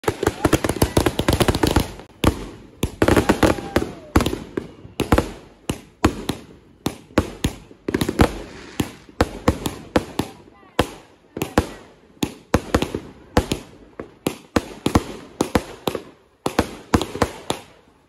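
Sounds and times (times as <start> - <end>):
fireworks crackling pops: 0.0 - 18.0
fireworks sharp bangs: 0.0 - 18.0.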